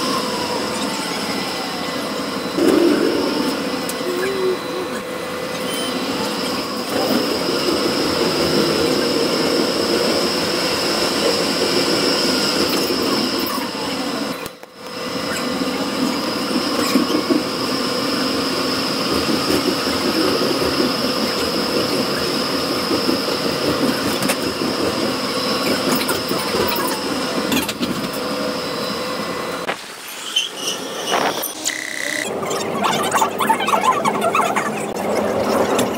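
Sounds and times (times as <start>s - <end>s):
tram wheels rumbling on rails: 0.0s - 29.6s
high tram whine: 0.0s - 30.0s.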